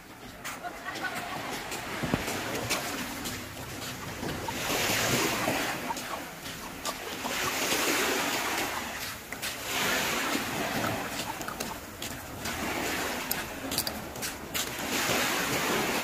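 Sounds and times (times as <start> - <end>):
small waves washing on sand: 0.0 - 16.0.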